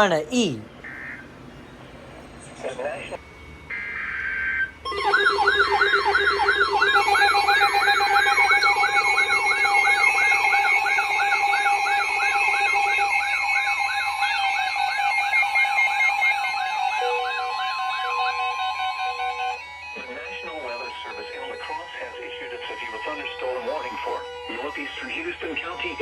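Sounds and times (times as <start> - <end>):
electronic siren yelping: 0.8 - 1.4, 2.6 - 26.0.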